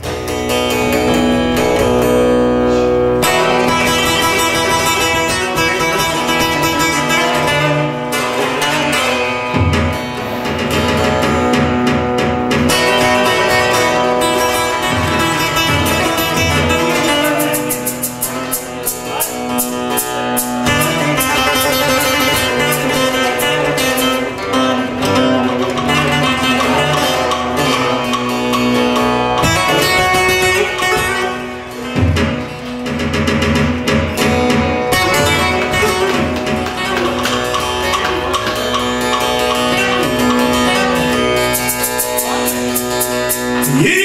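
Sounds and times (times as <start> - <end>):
long-necked lute played fast: 0.0 - 44.0.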